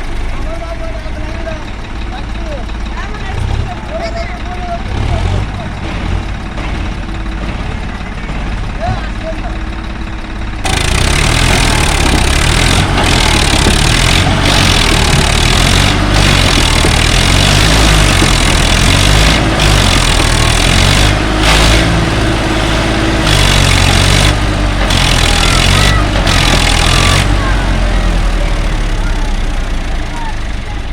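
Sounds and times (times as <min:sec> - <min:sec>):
diesel engines running: 0:00.0 - 0:30.9.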